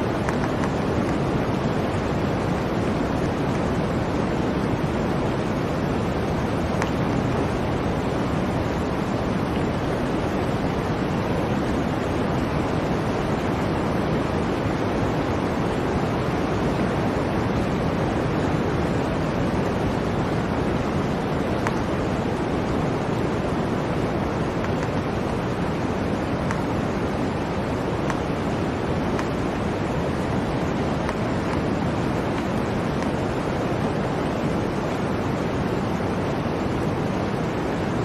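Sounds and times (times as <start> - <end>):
blizzard wind blowing: 0.0 - 38.0.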